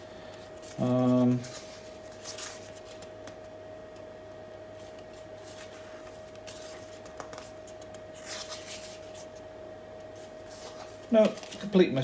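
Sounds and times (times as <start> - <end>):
rustling handling sounds: 0.2 - 3.6, 4.7 - 12.0.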